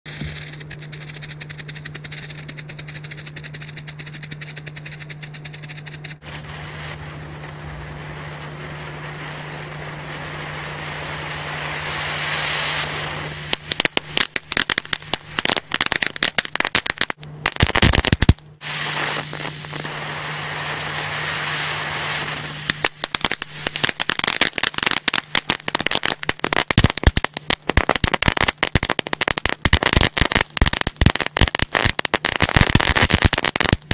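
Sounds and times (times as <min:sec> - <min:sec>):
fireworks crackling: 0:00.1 - 0:33.9
fireworks hissing: 0:00.1 - 0:33.9.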